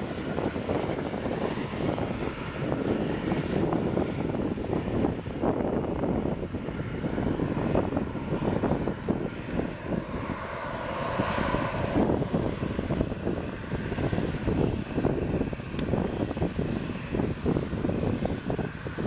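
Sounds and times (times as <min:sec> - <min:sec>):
aircraft high whine: 0:00.0 - 0:19.0
turboprop engines droning: 0:00.0 - 0:19.0.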